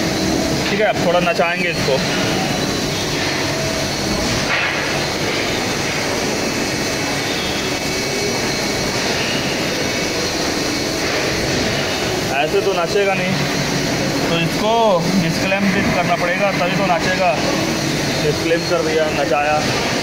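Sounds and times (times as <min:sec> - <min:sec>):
workshop machinery drone: 0:00.0 - 0:20.0.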